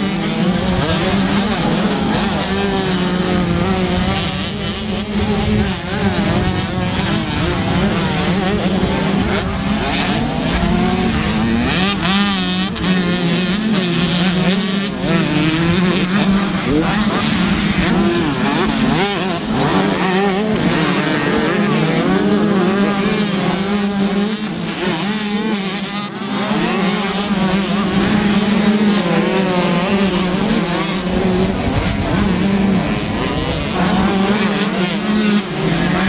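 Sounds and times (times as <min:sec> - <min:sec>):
motocross bike engines revving: 0:00.0 - 0:36.0.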